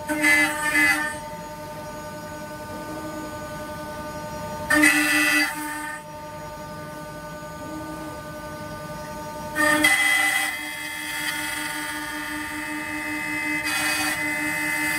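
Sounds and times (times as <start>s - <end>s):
cnc router spindles whining: 0.0s - 14.9s.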